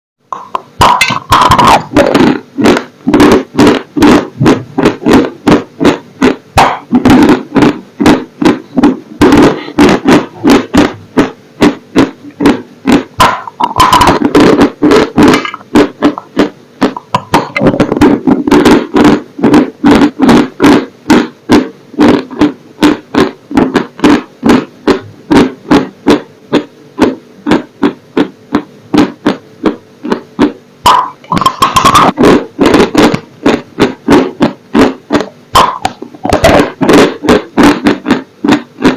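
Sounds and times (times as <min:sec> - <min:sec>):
person chewing crunchy food: 0:00.4 - 0:38.9.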